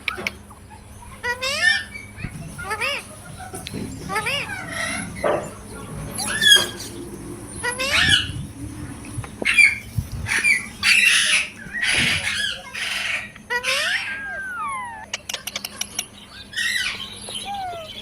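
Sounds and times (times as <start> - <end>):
parrot squawking: 1.0 - 8.6, 9.4 - 18.0.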